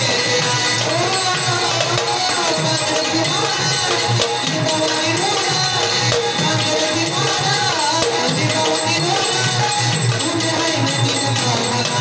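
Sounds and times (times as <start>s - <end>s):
drum beating steady rhythm: 0.0s - 12.0s.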